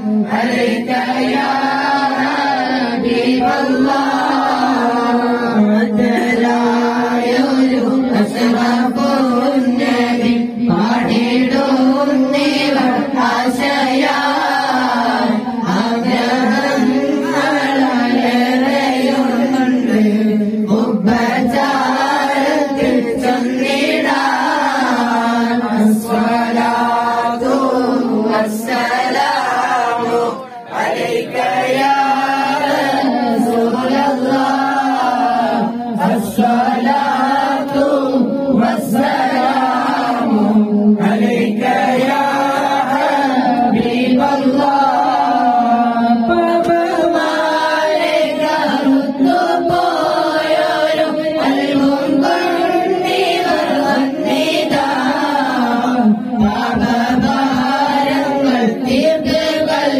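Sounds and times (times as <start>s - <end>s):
boy singing into a microphone: 0.0s - 59.9s
men and boys chanting together: 0.0s - 59.9s.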